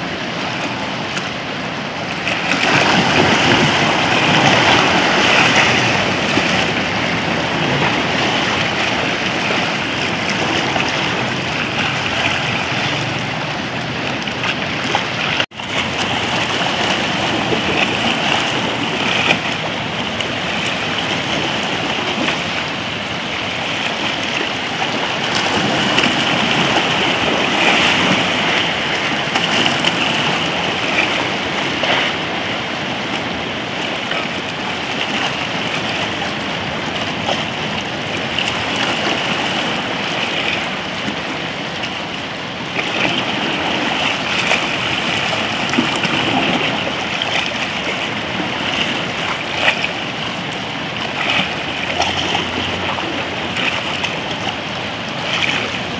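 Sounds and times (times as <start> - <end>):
waves lapping around rocks: 0.0 - 55.9.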